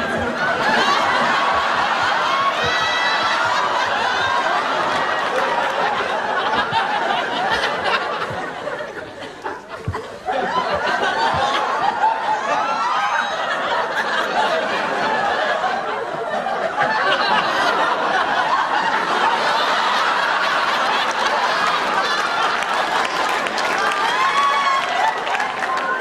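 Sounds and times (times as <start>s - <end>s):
studio audience laughing: 0.0s - 26.0s.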